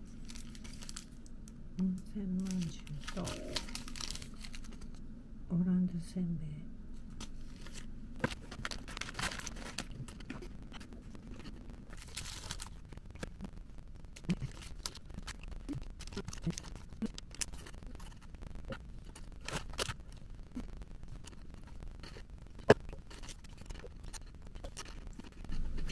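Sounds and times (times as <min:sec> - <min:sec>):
plastic wrapper crinkling: 0:00.0 - 0:01.5, 0:02.3 - 0:05.0, 0:07.2 - 0:25.9.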